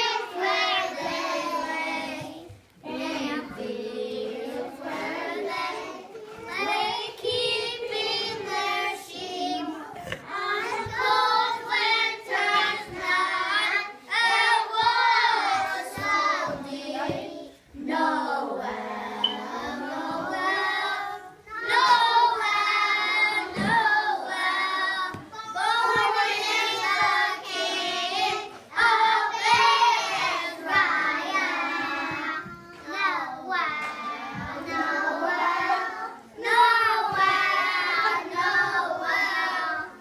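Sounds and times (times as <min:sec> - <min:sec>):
children singing in unison: 0:00.0 - 0:40.0.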